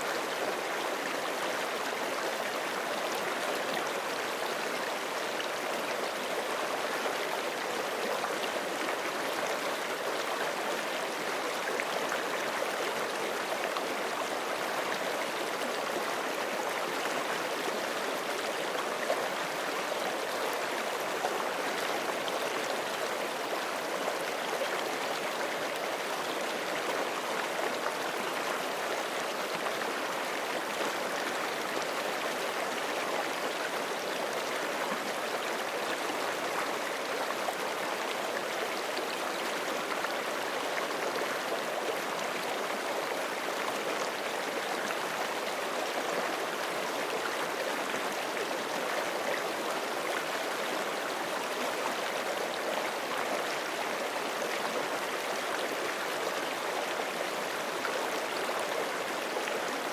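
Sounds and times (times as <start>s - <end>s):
creek flowing over rocks: 0.0s - 59.9s.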